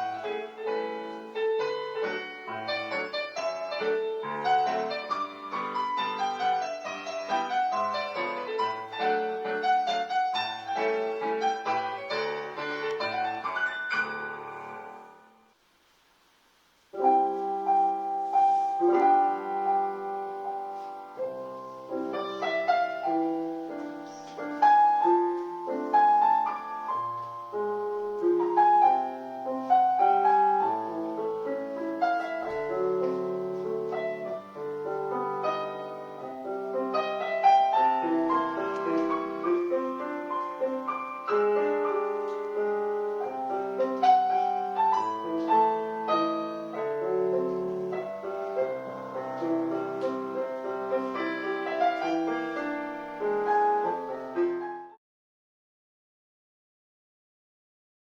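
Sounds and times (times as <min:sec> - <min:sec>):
solo piano piece: 0:00.0 - 0:15.5, 0:16.8 - 0:55.0.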